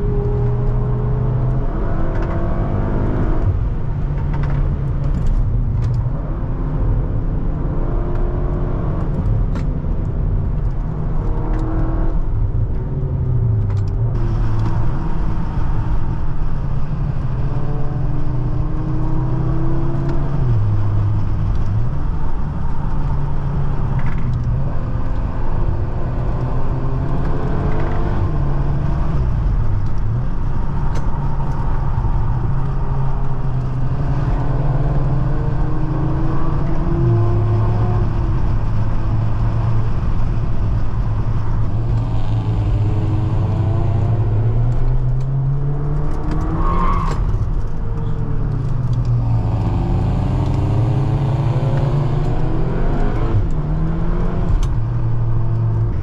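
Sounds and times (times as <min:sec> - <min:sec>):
car engine accelerating: 0:00.0 - 0:56.0
road and tyre noise: 0:00.0 - 0:56.0.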